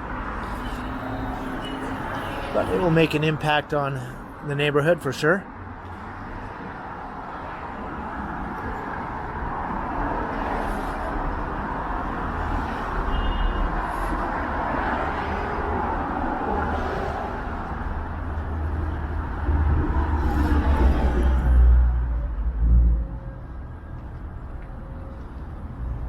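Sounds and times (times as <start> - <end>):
street traffic passing: 0.0 - 26.0
vehicle rumbling by close: 0.0 - 26.0.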